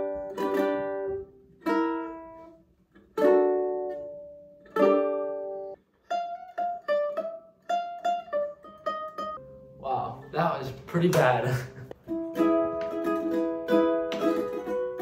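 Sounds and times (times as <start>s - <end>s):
ukulele strumming: 0.0s - 15.0s.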